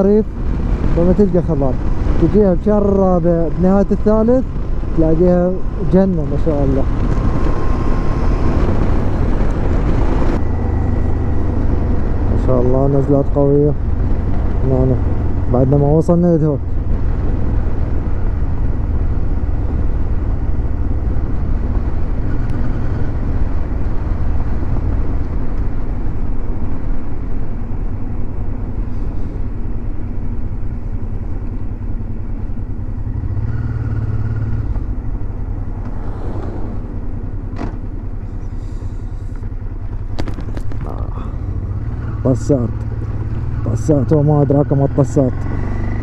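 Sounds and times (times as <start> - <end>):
motorcycle engine and road rumble: 0.0 - 46.0.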